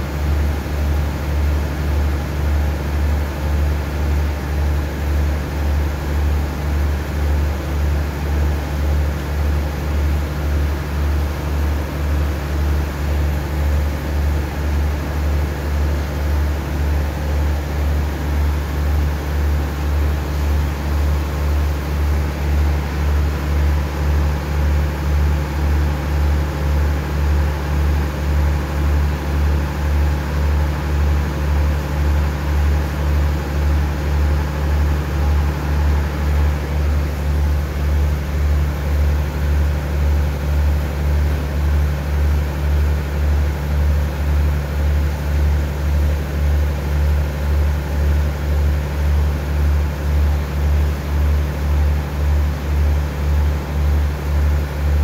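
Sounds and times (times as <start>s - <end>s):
diesel train engine idling: 0.0s - 55.0s.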